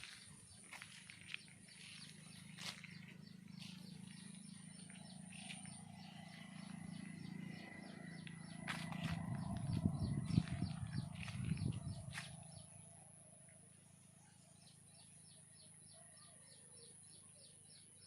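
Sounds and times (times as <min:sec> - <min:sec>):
steady low hum: 0:00.0 - 0:15.3.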